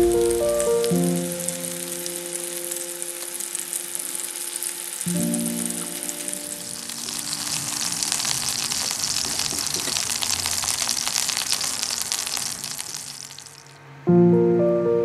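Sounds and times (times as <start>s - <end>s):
chicken sizzling in hot oil: 0.0s - 13.8s.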